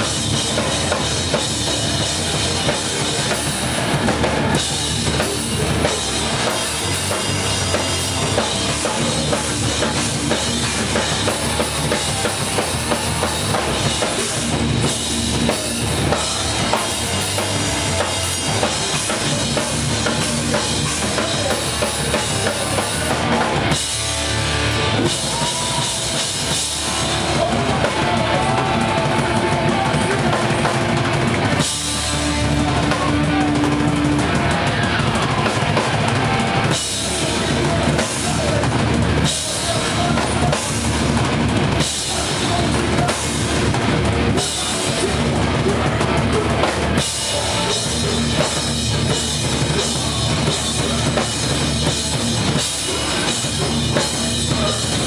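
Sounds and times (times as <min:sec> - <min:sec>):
distorted electric guitars and bass: 0:00.0 - 0:55.0
drum kit: 0:00.0 - 0:55.0
guitar line with bending notes: 0:00.0 - 0:55.0.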